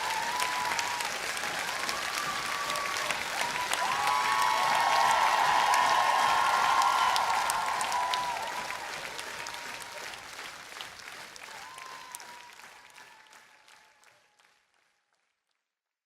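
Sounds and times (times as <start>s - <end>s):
audience applauding and cheering: 0.0s - 15.3s.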